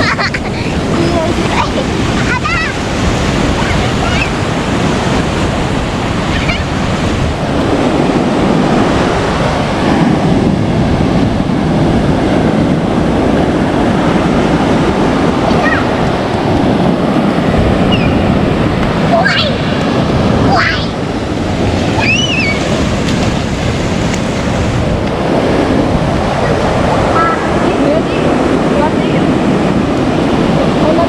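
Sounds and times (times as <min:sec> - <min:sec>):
rough surf washing onto beach: 0:00.0 - 0:31.0
wind buffeting microphone: 0:00.0 - 0:31.0.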